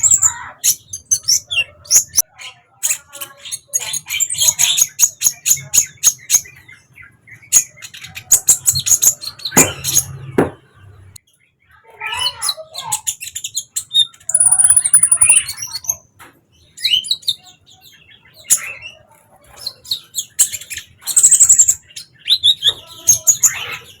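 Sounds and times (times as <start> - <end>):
bird chirping and trilling: 0.0 - 24.0.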